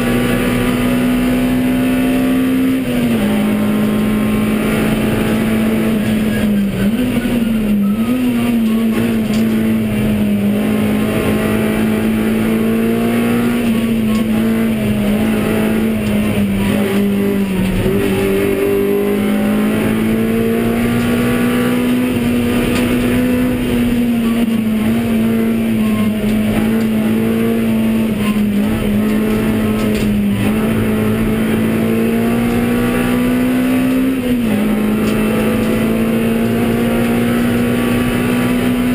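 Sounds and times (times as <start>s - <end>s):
car engine revving high: 0.0s - 38.9s
road and wind noise: 0.0s - 38.9s.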